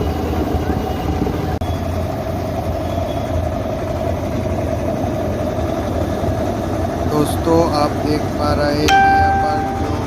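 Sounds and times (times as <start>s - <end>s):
truck machinery humming: 1.7s - 10.0s.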